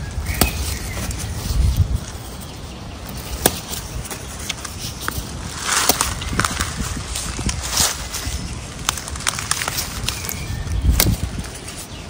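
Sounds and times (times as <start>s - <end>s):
stems snapping: 0.0s - 2.4s, 3.0s - 11.9s
leafy plants rustling: 0.0s - 12.0s
low microphone rumble: 0.0s - 12.0s.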